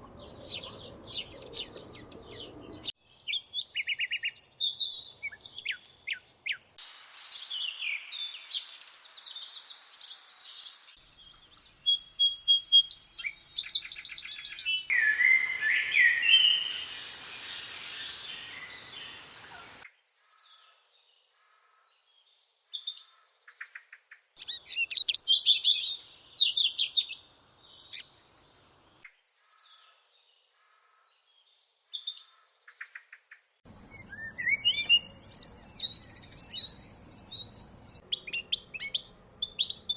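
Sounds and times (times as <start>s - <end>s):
songbirds chirping and singing: 0.0s - 20.8s, 24.4s - 31.4s, 33.7s - 39.9s.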